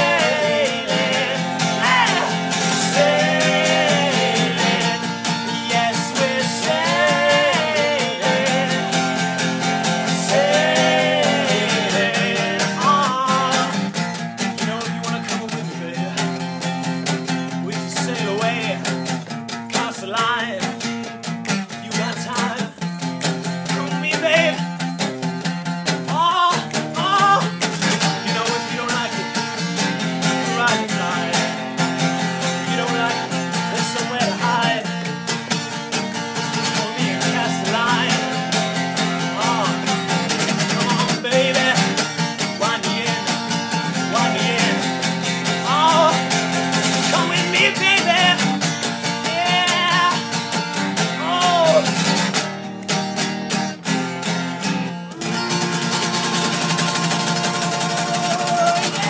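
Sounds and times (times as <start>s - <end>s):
man singing with vibrato: 0.0s - 16.6s, 17.3s - 19.1s, 19.7s - 20.9s, 21.6s - 22.8s, 23.6s - 24.8s, 26.0s - 35.3s, 36.4s - 52.2s, 55.1s - 59.0s
acoustic guitar strumming: 0.0s - 59.0s.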